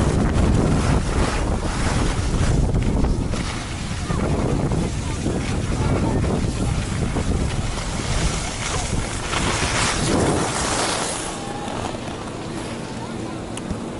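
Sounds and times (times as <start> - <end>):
skis sliding on snow: 0.0 - 13.1
wind buffeting microphone: 0.0 - 13.9.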